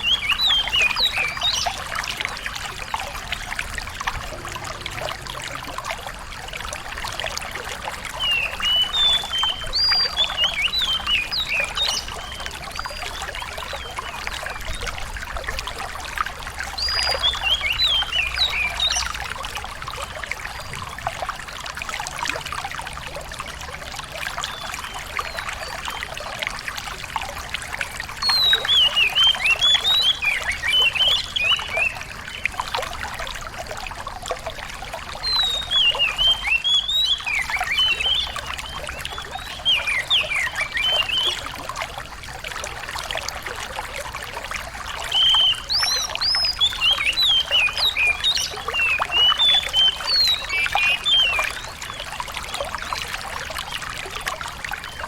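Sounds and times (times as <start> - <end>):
water running and trickling: 0.0 - 55.0.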